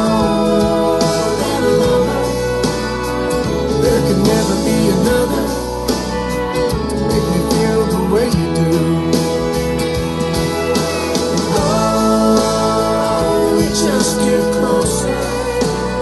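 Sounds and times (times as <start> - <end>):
song with vocals and guitar: 0.0 - 16.0.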